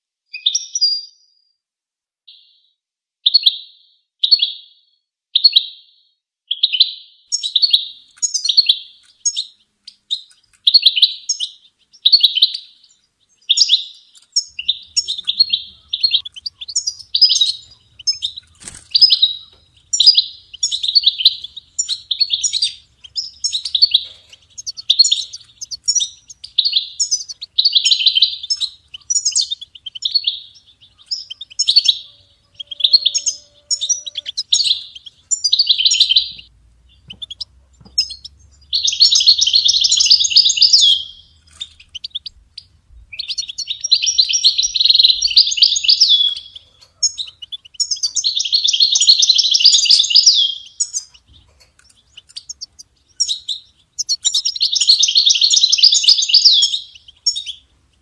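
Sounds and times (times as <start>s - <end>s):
bird twittering song: 0.3s - 1.5s, 2.3s - 58.0s.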